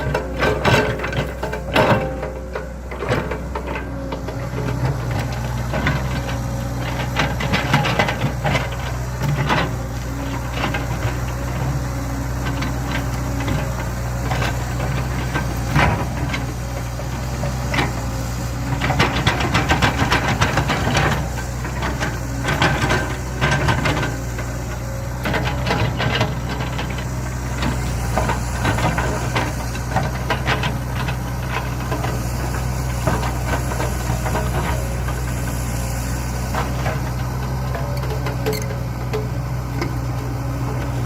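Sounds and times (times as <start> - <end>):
excavator diesel engine running: 0.0 - 41.0
machine clanks and rattles: 0.0 - 41.0.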